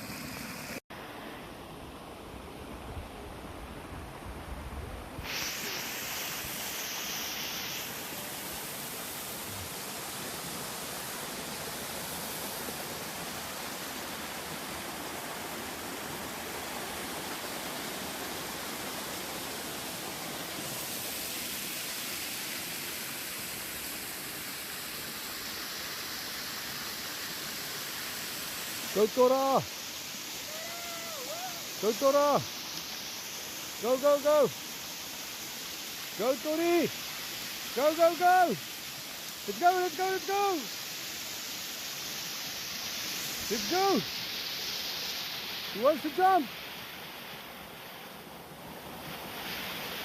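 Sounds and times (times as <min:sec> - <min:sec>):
river water flowing: 0:00.0 - 0:50.0.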